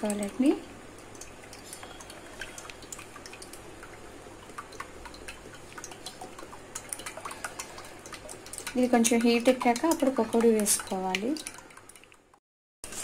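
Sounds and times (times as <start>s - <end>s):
small ticks and drips: 0.0s - 12.4s.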